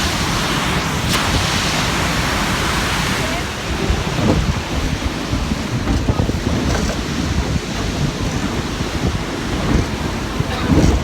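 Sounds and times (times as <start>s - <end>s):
waterfall roaring: 0.0s - 11.0s
wind buffeting microphone: 0.0s - 11.0s.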